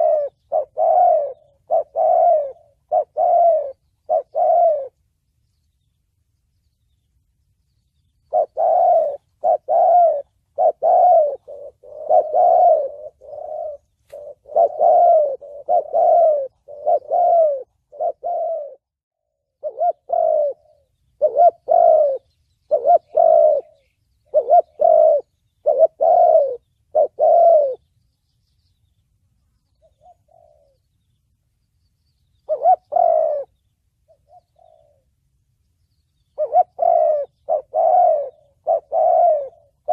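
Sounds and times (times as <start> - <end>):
dove cooing: 0.0 - 5.0, 8.2 - 27.9, 29.6 - 31.0, 32.3 - 35.2, 36.2 - 39.9.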